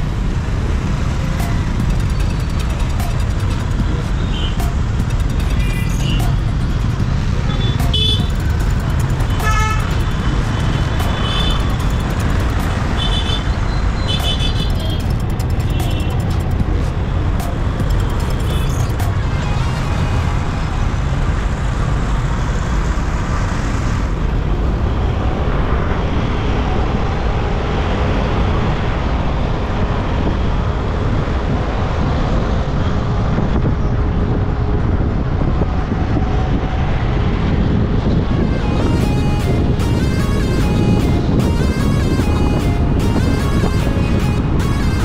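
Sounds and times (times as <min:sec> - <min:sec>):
car engine and tyre noise: 0:00.0 - 0:45.0
surrounding road traffic: 0:00.0 - 0:45.0.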